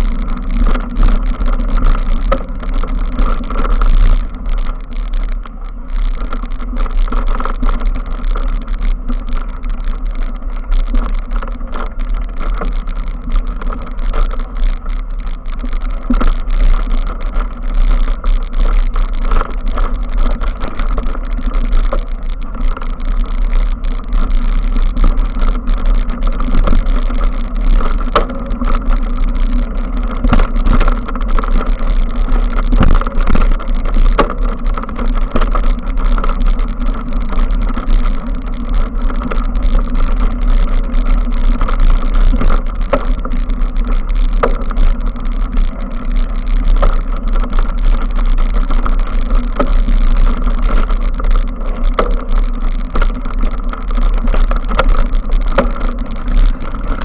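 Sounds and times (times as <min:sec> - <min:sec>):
bike tyres rumbling and rattling: 0:00.0 - 0:57.0.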